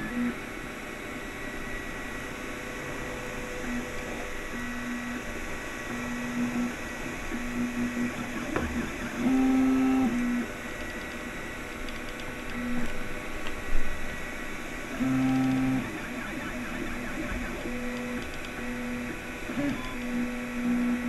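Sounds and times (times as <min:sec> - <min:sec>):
fan hum: 0:00.0 - 0:21.0
stepper motors whining: 0:02.8 - 0:21.0.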